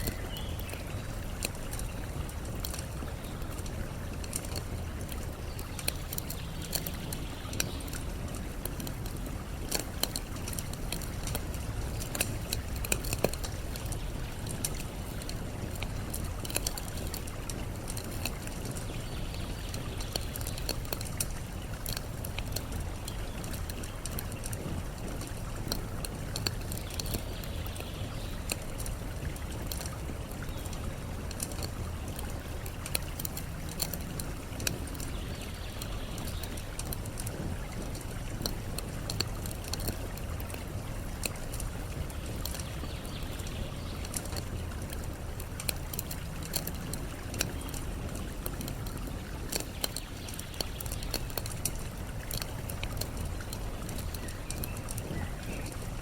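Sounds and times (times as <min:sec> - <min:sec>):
campfire crackling and popping: 0:00.0 - 0:56.0
flowing water: 0:00.0 - 0:56.0.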